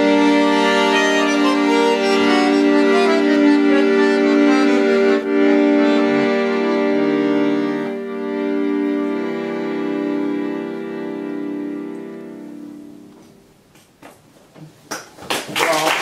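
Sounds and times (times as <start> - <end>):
instrumental held chords: 0.0 - 14.0.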